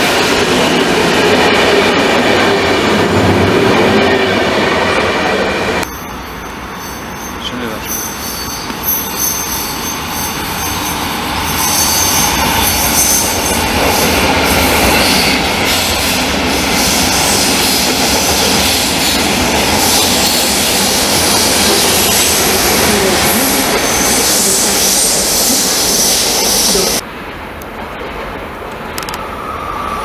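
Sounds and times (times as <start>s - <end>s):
train wheels rolling on rails: 0.0s - 30.0s.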